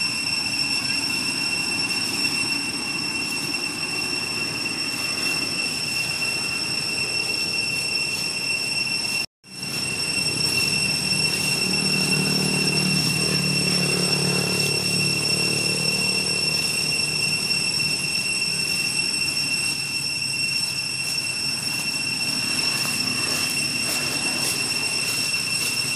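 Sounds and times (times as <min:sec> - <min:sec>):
shrill insect drone: 0:00.0 - 0:25.9.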